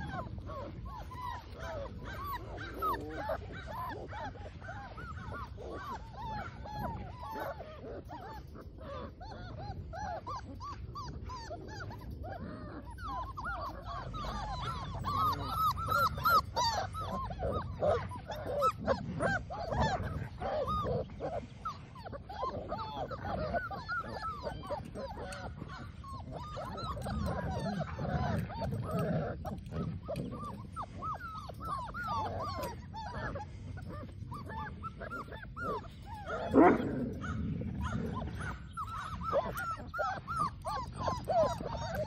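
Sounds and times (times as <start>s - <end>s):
puppies whining and yipping: 0.0s - 42.0s.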